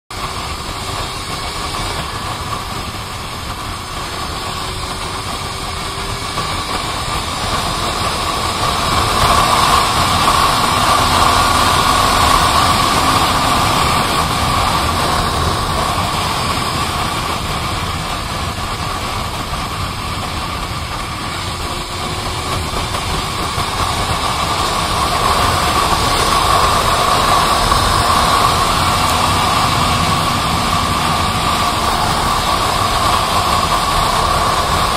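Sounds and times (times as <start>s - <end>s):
constant hum: 0.1s - 34.9s
motorcycle engine cruising: 0.1s - 34.9s
wind noise: 0.1s - 34.9s.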